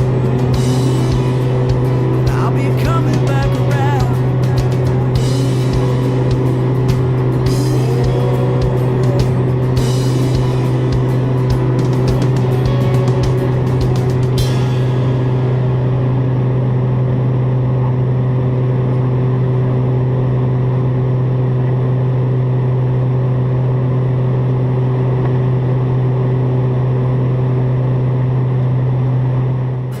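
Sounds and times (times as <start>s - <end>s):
turboprop engines droning: 0.0s - 30.0s.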